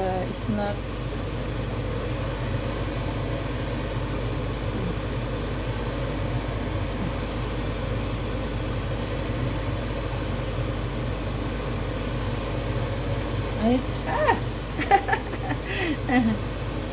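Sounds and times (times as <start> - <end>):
machine humming with hiss: 0.0 - 16.9.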